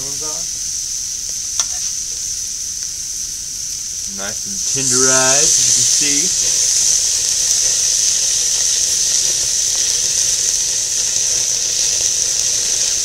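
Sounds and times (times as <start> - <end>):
steaks sizzling on a grill: 0.0 - 13.0.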